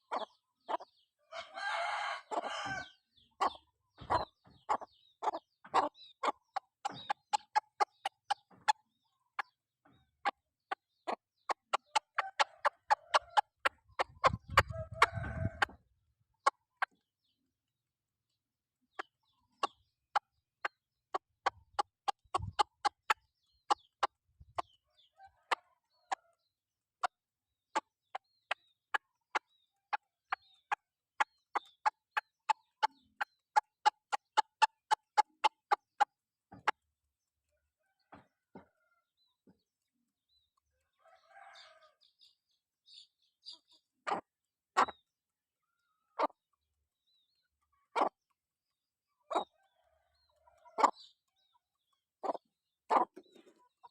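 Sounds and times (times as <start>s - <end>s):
chickens clucking: 0.0s - 17.5s, 18.8s - 53.9s.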